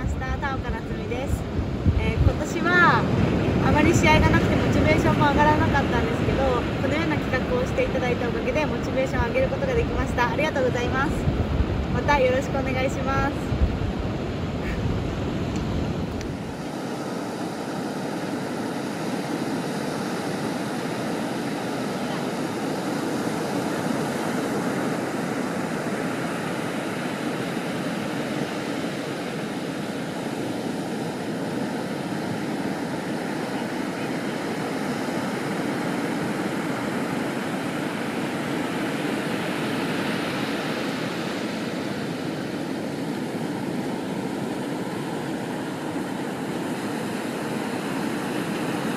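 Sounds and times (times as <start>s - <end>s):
ocean surf rushing: 0.0s - 48.9s.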